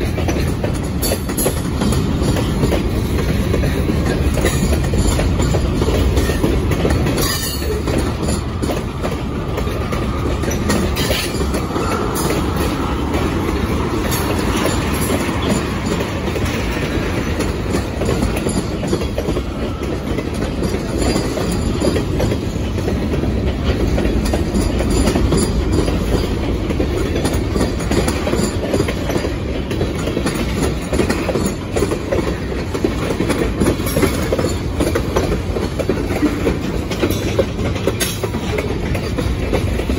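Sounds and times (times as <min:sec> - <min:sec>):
steel wheels rumbling on rails: 0:00.0 - 0:39.9
wheels clacking over rail joints: 0:00.0 - 0:39.9.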